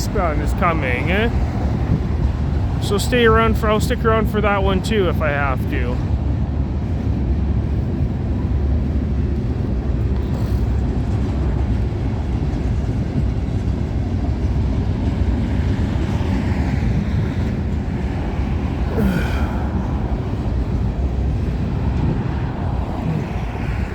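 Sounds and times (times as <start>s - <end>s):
freight cars rumbling on track: 0.0s - 23.9s.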